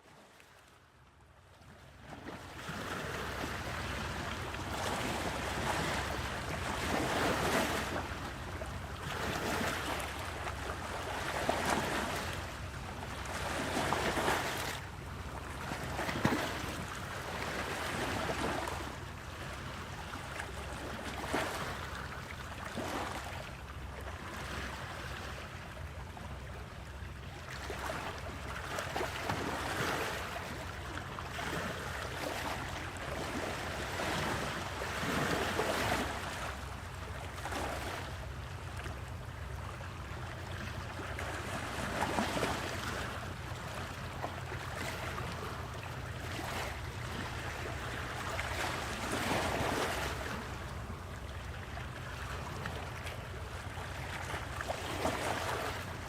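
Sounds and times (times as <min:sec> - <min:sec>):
water splashing against boat hull: 0:02.1 - 0:25.6, 0:26.3 - 0:56.0.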